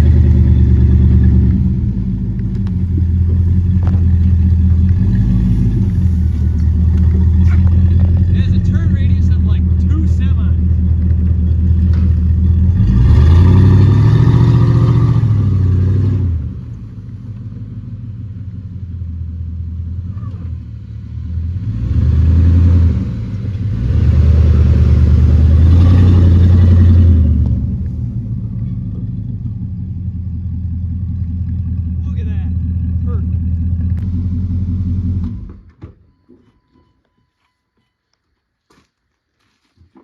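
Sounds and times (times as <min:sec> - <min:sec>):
engine revving: 0:00.0 - 0:19.1, 0:19.8 - 0:30.8, 0:31.6 - 0:35.7.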